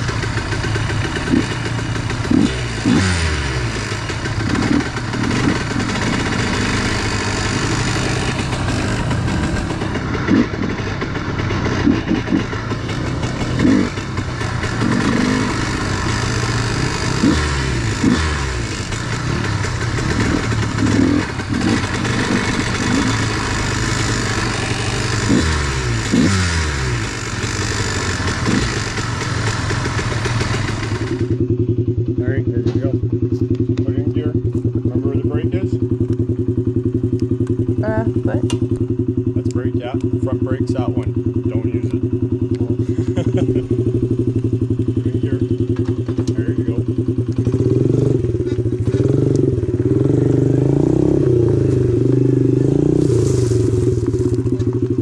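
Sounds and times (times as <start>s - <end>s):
rough rattle of ride noise: 0.0s - 31.5s, 39.4s - 55.0s
dirt bike engine revving: 0.0s - 55.0s.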